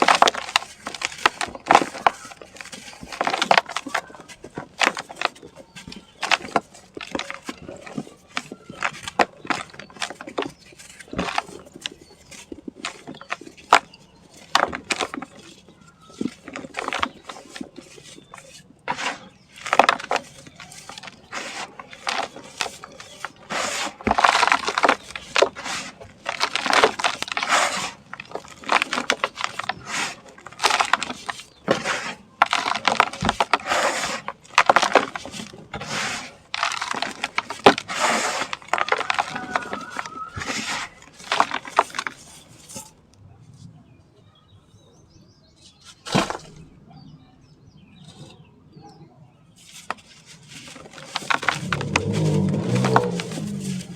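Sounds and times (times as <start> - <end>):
crumbling chunks crunching: 0.0 - 43.1, 49.6 - 53.9.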